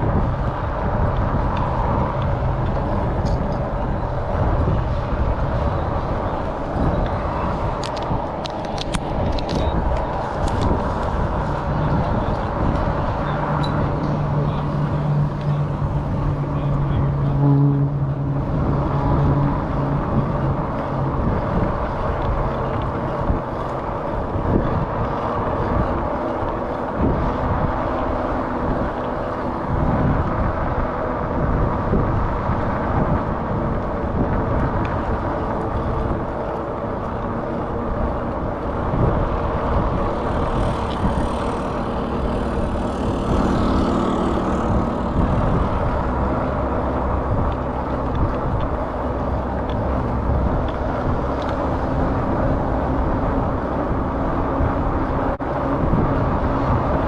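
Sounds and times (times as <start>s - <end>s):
electric bike running rumble: 0.0s - 57.0s
wind buffeting microphone: 0.0s - 57.0s.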